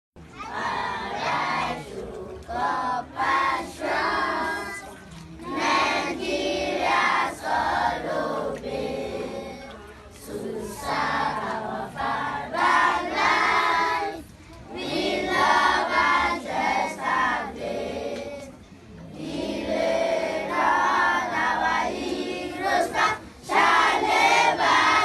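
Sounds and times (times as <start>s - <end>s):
children singing together: 0.4s - 18.5s, 19.1s - 25.0s.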